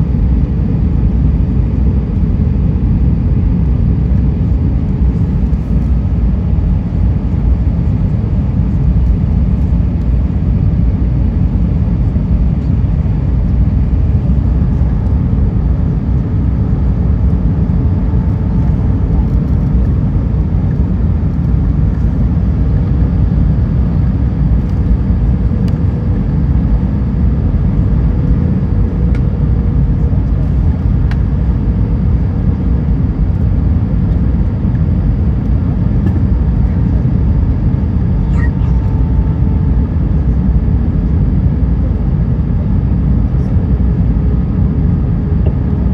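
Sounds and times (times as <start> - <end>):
airplane cabin engine rumble: 0.0 - 45.9.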